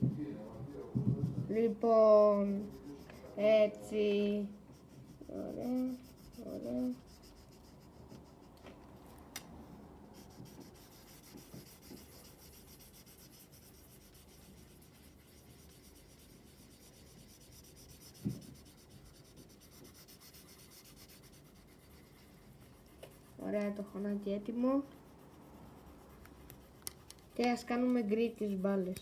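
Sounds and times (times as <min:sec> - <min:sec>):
felt-tip marker on paper: 0:00.0 - 0:08.9, 0:10.1 - 0:29.0.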